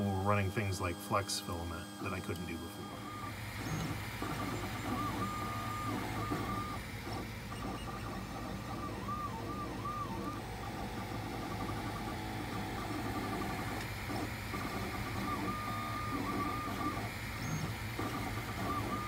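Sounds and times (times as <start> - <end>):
fans humming: 0.0 - 19.0
stepper motors whining: 0.0 - 19.0.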